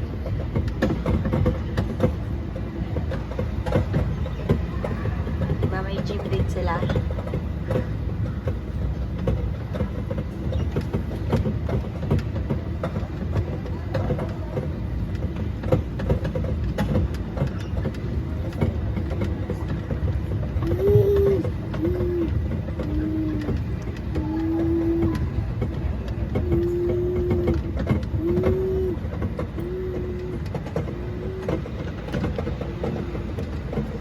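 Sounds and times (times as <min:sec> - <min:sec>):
carriages rattling and knocking: 0:00.0 - 0:34.0
ride-on train rumbling: 0:00.0 - 0:34.0.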